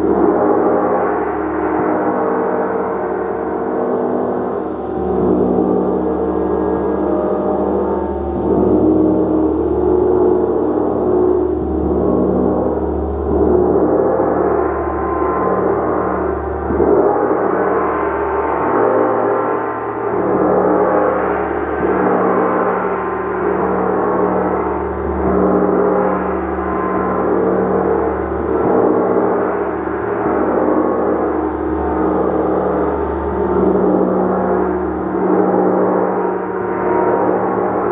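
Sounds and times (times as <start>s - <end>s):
gong ringing: 0.0s - 37.9s.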